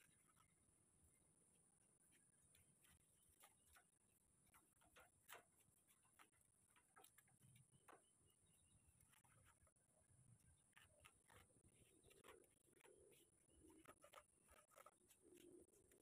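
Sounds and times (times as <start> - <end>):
trowel ticking and scraping: 2.1 - 16.0.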